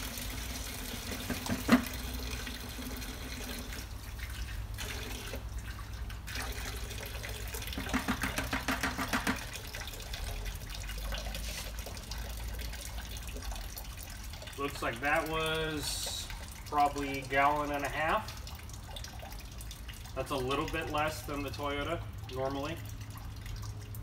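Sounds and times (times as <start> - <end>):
water pouring into plastic bucket: 0.0 - 24.0.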